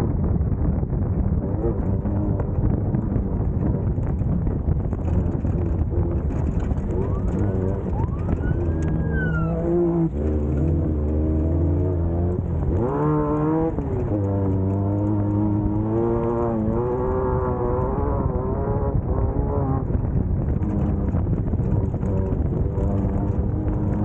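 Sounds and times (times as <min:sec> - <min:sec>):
race car engine revving: 0:01.3 - 0:24.0.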